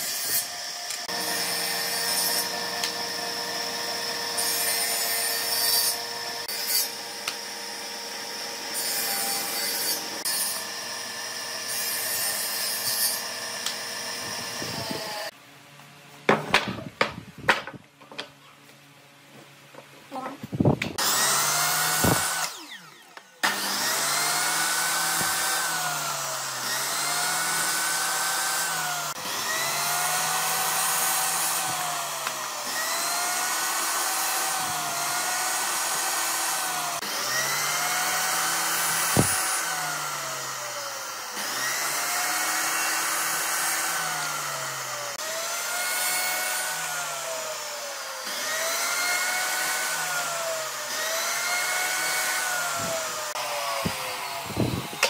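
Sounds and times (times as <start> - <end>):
power tool running on wood: 0.0 - 15.4, 21.0 - 55.0.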